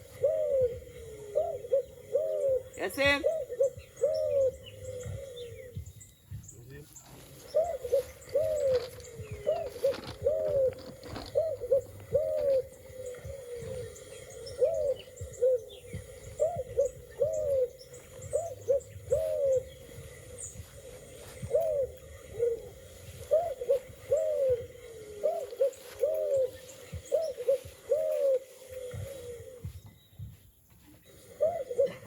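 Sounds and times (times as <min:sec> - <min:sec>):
pigeon cooing: 0:00.0 - 0:05.8, 0:07.3 - 0:29.8, 0:31.1 - 0:32.0.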